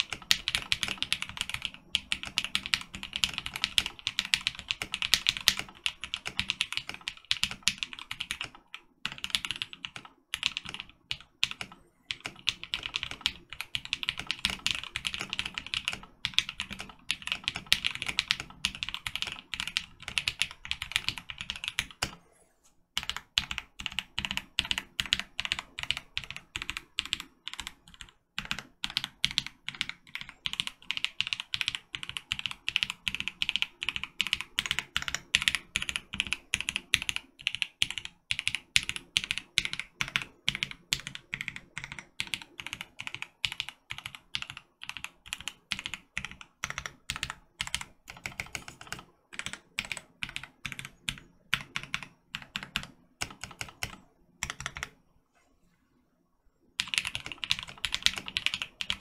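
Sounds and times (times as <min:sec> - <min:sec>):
mechanical keyboard typing: 0:00.0 - 0:22.2, 0:23.0 - 0:55.0, 0:56.8 - 0:59.0.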